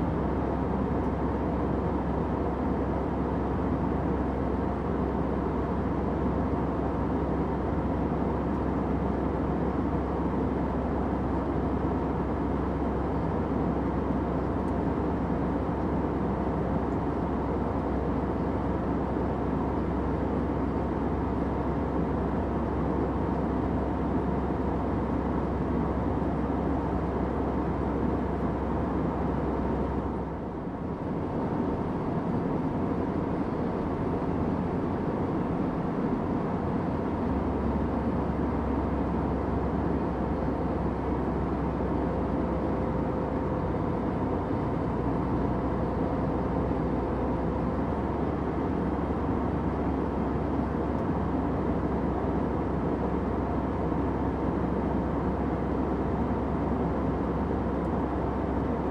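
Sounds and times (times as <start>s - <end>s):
airplane cabin drone: 0.0s - 58.9s.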